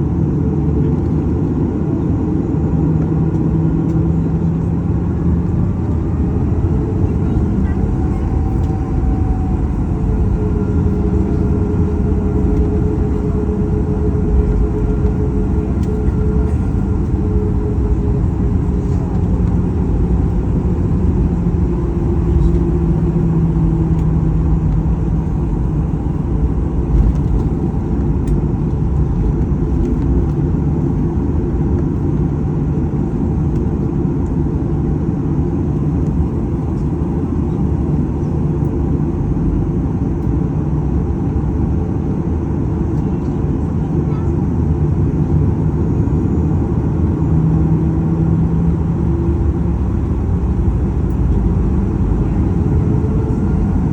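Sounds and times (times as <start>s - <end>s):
jet engines and airflow: 0.0s - 53.9s.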